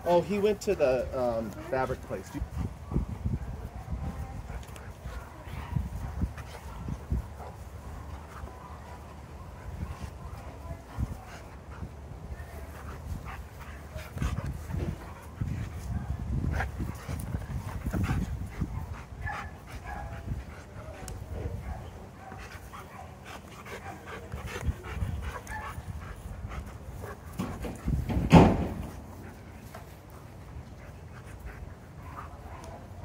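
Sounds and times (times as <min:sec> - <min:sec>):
dog panting: 0:00.1 - 0:33.0.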